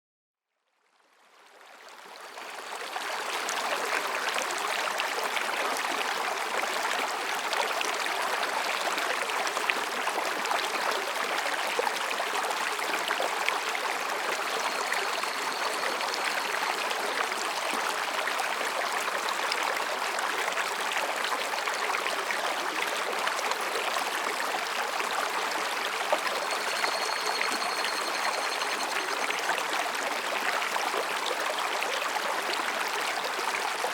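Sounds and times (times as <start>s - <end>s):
stream rushing over rocks: 3.0s - 33.9s.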